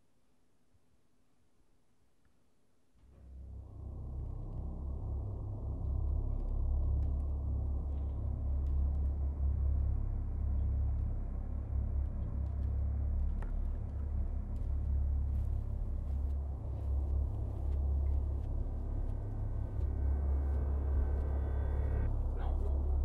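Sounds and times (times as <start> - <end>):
deep rumbling drone: 3.0 - 23.0.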